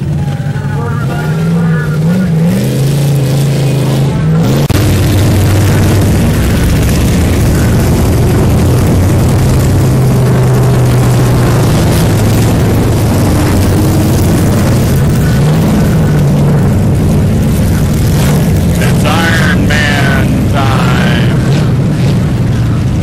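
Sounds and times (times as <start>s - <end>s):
race truck engines running hard: 0.0s - 23.0s.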